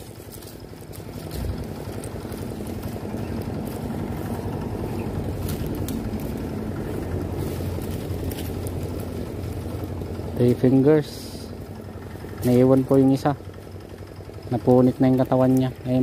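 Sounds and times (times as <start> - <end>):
small engine humming: 0.0 - 16.0.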